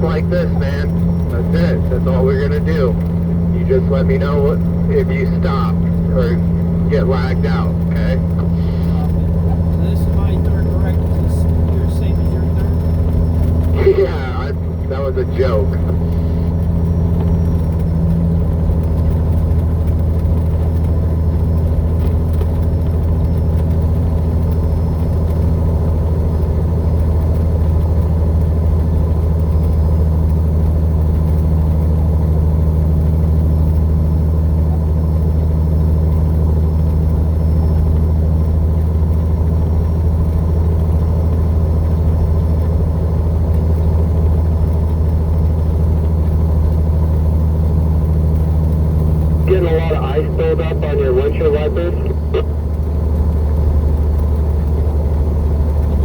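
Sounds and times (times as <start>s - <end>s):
truck engine pulling uphill: 0.0s - 56.0s.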